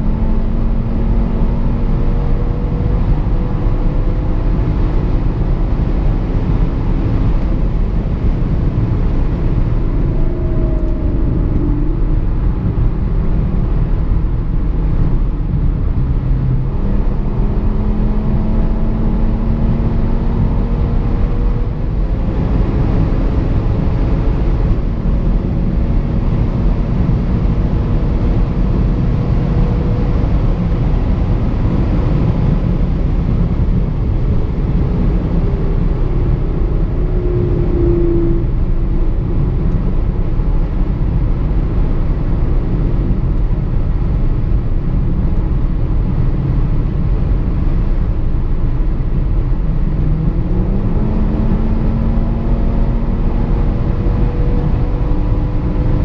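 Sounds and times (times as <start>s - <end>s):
car engine cruising: 0.0s - 56.0s
road and wind noise: 0.0s - 56.0s.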